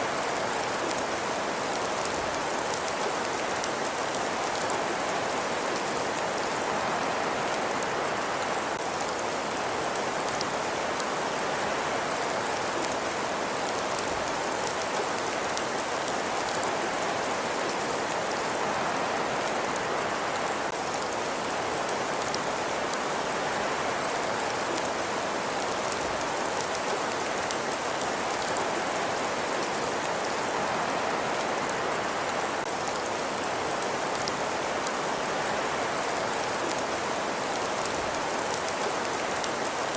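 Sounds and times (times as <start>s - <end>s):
faint fire crackles: 0.0s - 39.9s.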